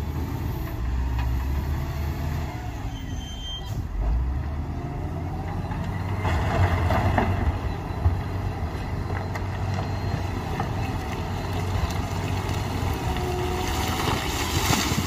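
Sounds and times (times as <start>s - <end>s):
diesel engine rumbling under load: 0.0s - 15.0s.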